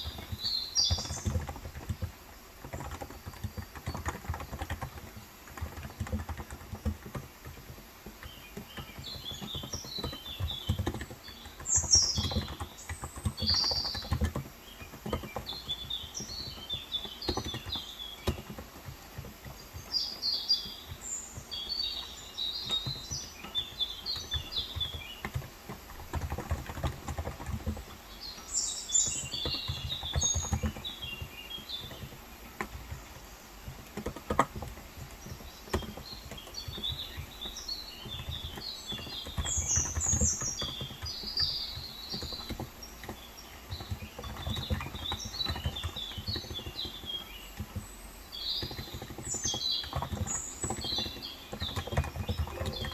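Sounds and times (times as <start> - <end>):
soft keyboard keystrokes: 0.0 - 28.4, 29.0 - 52.9
small birds chirping: 0.0 - 52.9.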